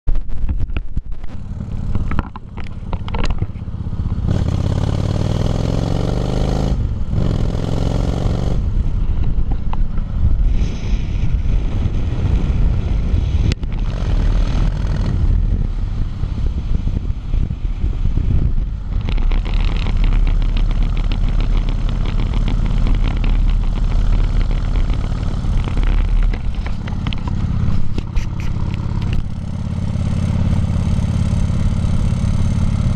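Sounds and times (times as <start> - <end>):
motorcycle engine running: 0.1 - 32.9
wind rushing over microphone: 0.1 - 32.9.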